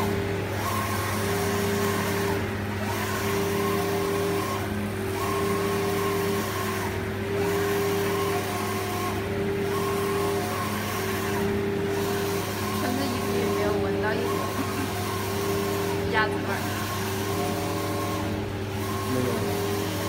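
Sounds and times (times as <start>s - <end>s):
printer carriage motor whine: 0.0s - 20.0s.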